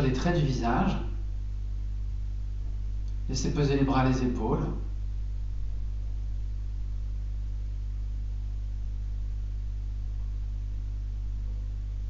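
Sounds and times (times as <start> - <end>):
faint room hiss: 0.0 - 12.0
low hum with overtones: 0.0 - 12.0.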